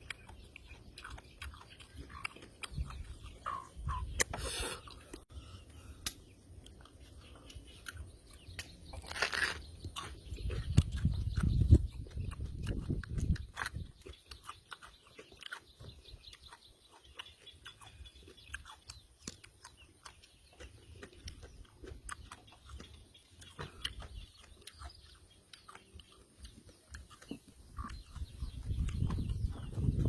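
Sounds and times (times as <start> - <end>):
person chewing with mouth smacks: 0.0 - 30.0.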